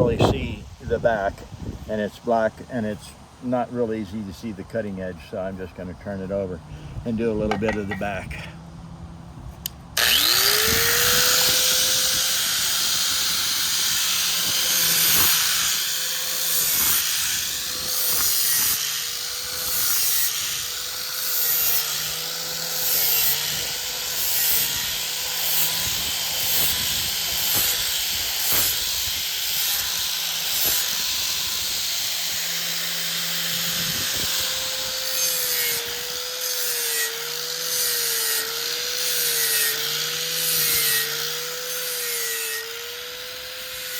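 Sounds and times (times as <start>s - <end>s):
metal grinding on abrasive: 7.1s - 8.5s, 10.0s - 43.9s
electric sander motor hum: 8.6s - 43.9s.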